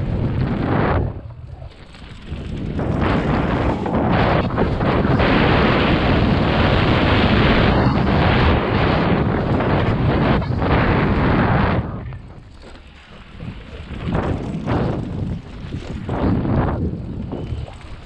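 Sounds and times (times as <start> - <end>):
bike tyres rattling on dirt trail: 0.0 - 18.0
wind buffeting microphone: 0.0 - 18.0.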